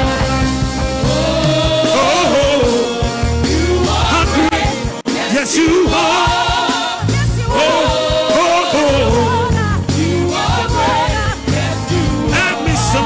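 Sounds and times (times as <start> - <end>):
band with sustained bass: 0.0 - 5.0, 7.0 - 13.0
person singing with vibrato: 1.0 - 13.0.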